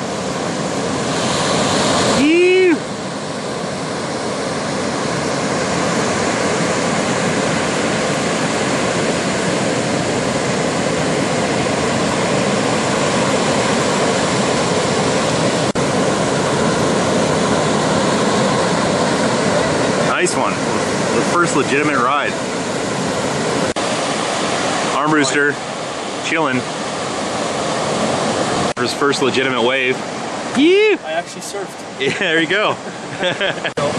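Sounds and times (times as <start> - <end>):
ocean waves breaking: 0.0 - 33.9.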